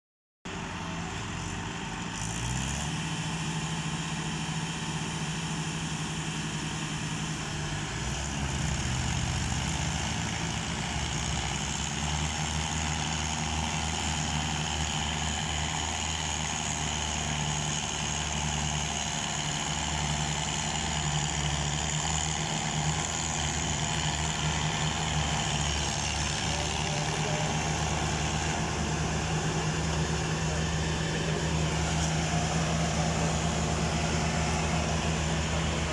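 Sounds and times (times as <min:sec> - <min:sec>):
tractor diesel engines under load: 0:00.5 - 0:35.9.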